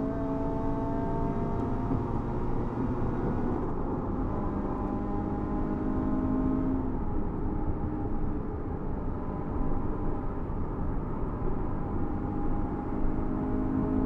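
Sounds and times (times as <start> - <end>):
car engine under throttle: 0.0 - 14.0
wind and road noise: 0.0 - 14.0.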